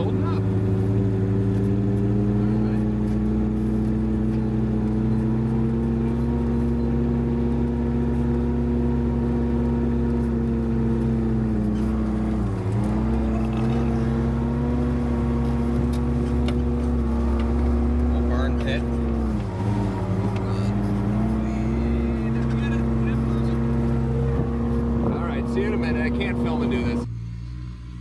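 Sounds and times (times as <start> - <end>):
vehicle engine drone from inside cab: 0.0 - 28.0.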